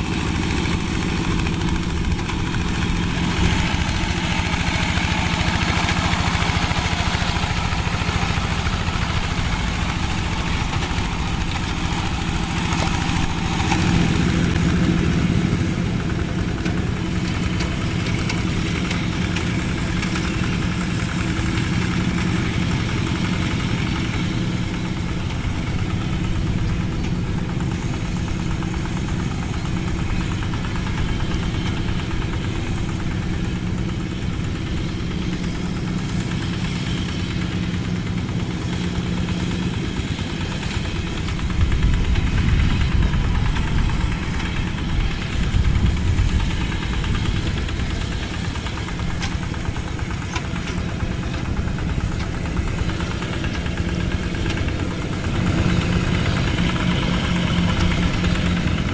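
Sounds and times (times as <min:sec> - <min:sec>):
diesel engine running under load: 0:00.0 - 0:58.9.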